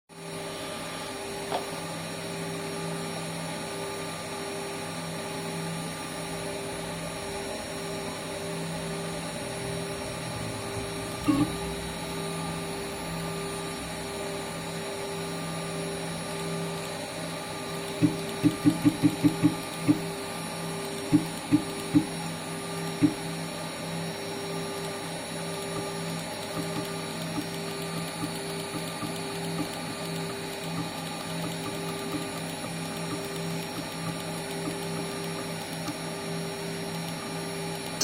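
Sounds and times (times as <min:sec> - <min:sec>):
milling machine motor humming: 0:00.2 - 0:05.8, 0:08.0 - 0:38.0.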